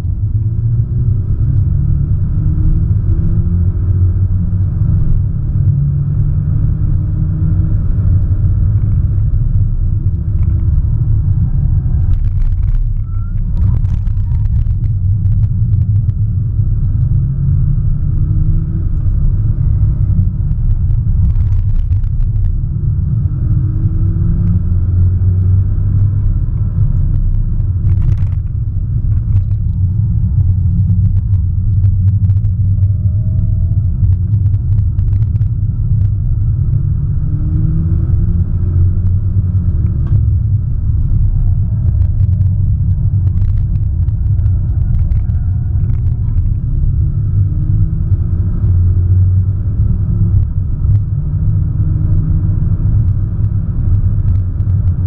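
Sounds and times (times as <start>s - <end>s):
car engine rumbling: 0.0s - 55.0s
tyres on road: 0.0s - 55.0s.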